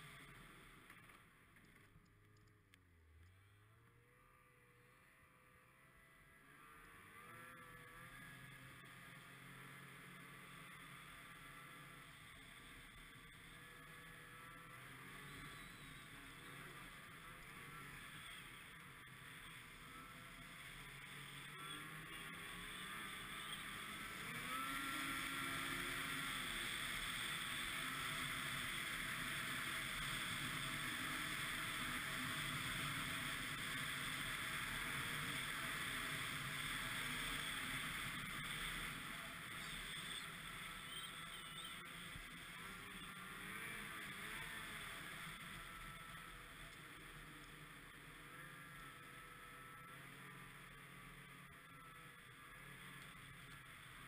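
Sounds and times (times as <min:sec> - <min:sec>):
snowmobile engine running: 0:04.0 - 0:54.0.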